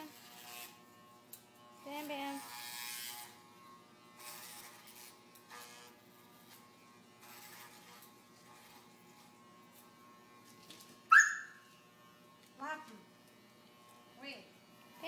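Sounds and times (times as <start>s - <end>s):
electric clippers buzzing: 0.0s - 15.0s.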